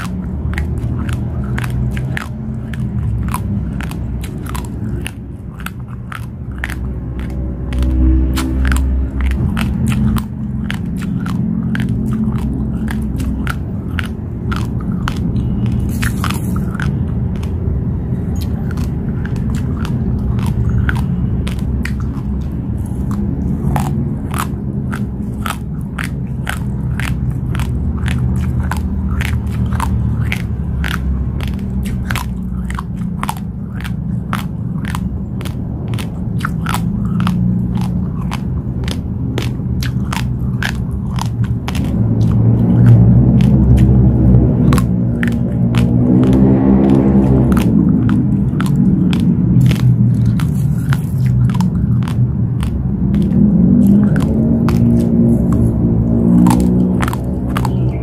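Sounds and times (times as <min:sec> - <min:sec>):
chewing crunchy raw rice: 0:00.0 - 0:58.0
steady low rumble: 0:00.0 - 0:58.0.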